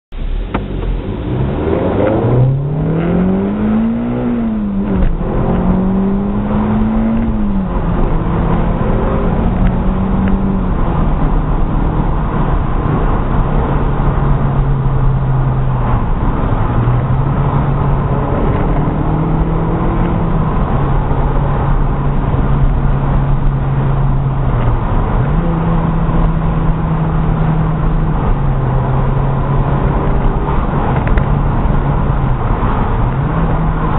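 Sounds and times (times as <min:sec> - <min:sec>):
car engine revving: 0:00.1 - 0:33.9
road and tyre noise: 0:00.1 - 0:33.9.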